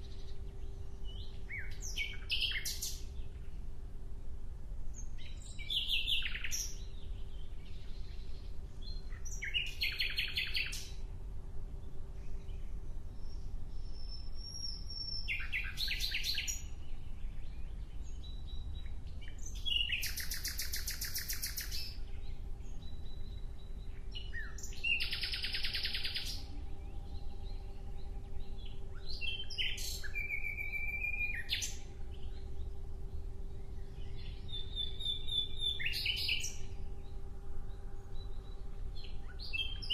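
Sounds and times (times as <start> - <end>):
faint steady hum: 0.0 - 39.9
songbird chirps and trills: 0.0 - 39.9.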